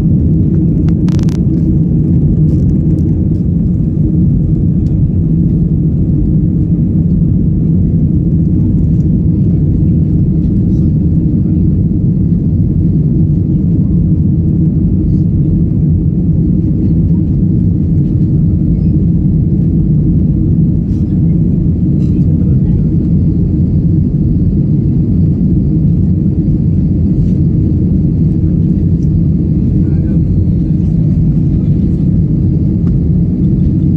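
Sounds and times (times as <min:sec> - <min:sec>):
aircraft engines rumbling: 0:00.0 - 0:33.9.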